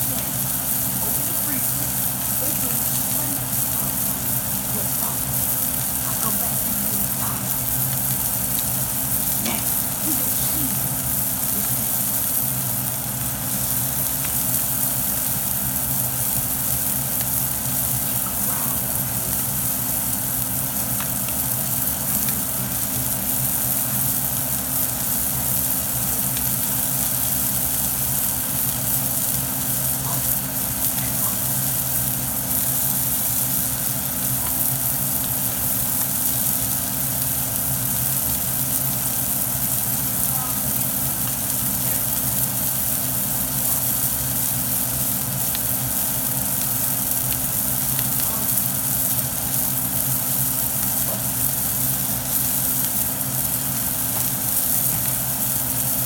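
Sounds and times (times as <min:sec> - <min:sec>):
fish sizzling in a pan: 0:00.0 - 0:56.0.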